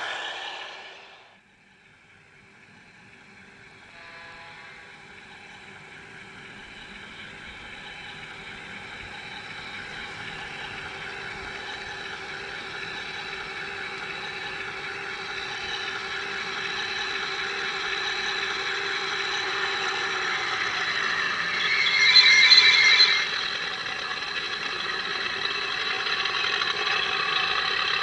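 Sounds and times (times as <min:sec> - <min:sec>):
model locomotive engine sound: 0:00.0 - 0:28.0.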